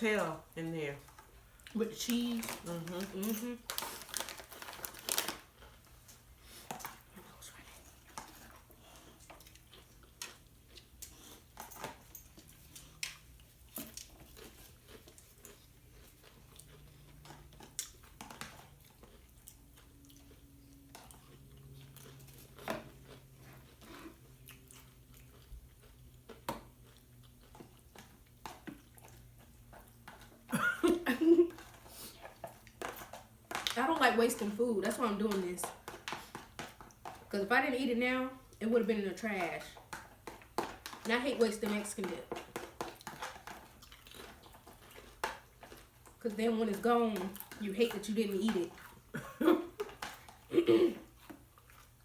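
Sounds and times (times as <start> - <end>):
chewing crunchy chips: 1.0 - 37.3, 38.3 - 52.0.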